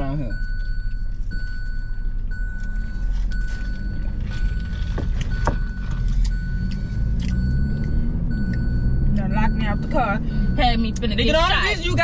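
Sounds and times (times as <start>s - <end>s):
car engine while driving: 0.0s - 12.0s
road noise inside car: 0.0s - 12.0s.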